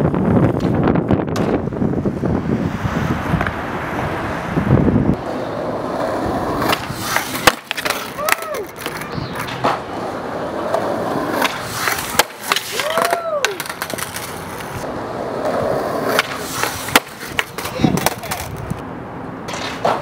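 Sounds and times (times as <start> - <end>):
skateboard wheels rolling on concrete: 0.0 - 20.0
skateboard popping and landing: 0.5 - 4.1, 5.1 - 18.8, 19.4 - 20.0.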